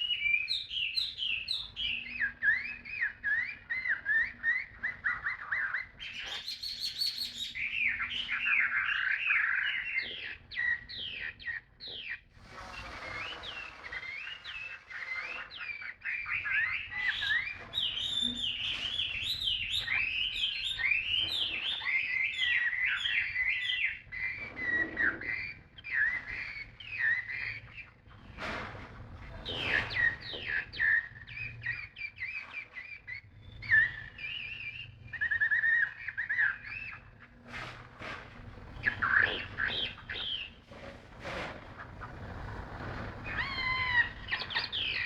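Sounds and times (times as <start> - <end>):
songbird singing: 0.0 - 12.3, 13.2 - 28.4, 29.2 - 37.5, 38.4 - 40.9, 41.6 - 45.0.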